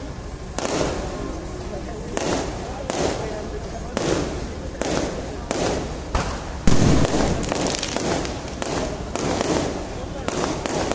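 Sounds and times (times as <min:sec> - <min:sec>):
firework crackle: 0:00.0 - 0:10.9
firework shells bursting: 0:00.0 - 0:10.9.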